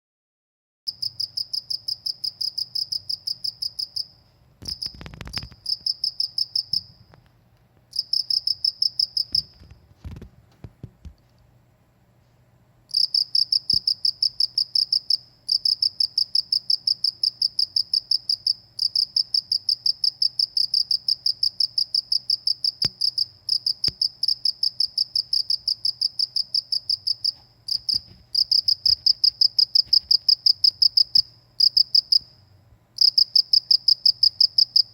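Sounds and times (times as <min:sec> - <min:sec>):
cricket chirping: 0:00.9 - 0:07.2, 0:07.9 - 0:09.7, 0:12.9 - 0:34.9.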